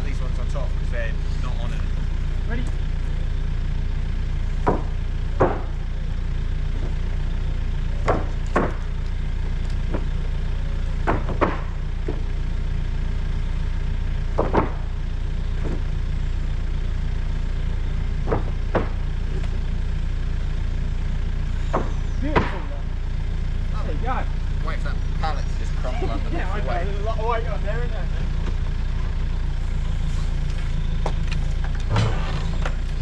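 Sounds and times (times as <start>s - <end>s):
forklift engine idling: 0.0s - 33.0s.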